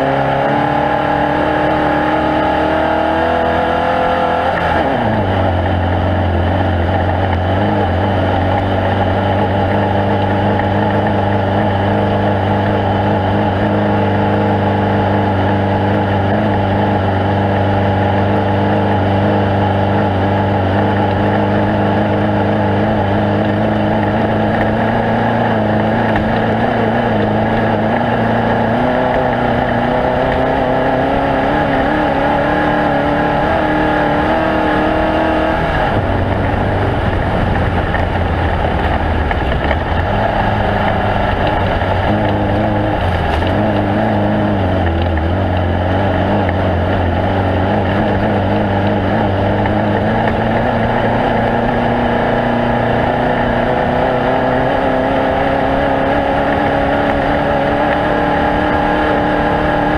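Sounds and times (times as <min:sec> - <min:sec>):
race vehicle engine running hard: 0:00.0 - 0:59.9
steady rush of noise: 0:00.0 - 0:59.9.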